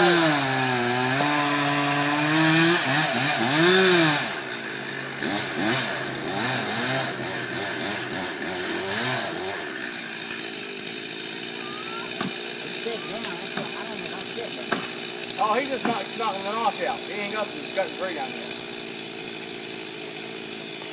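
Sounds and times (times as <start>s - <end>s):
chainsaw engine revving: 0.0s - 20.9s.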